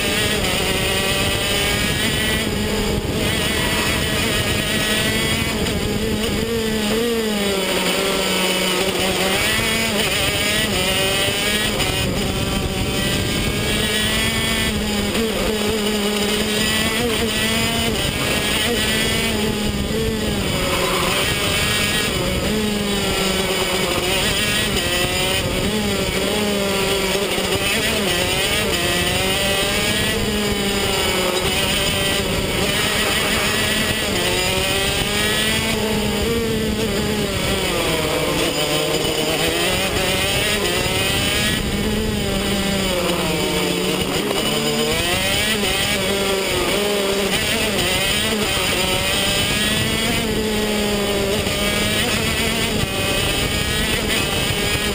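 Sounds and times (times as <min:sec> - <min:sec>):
kart engine revving: 0:00.0 - 0:54.9.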